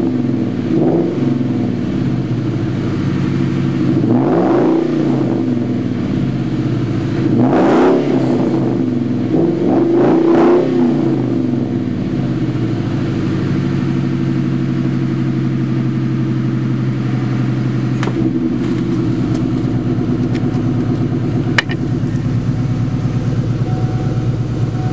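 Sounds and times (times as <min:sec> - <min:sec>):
car engine revving and idling: 0:00.0 - 0:24.9.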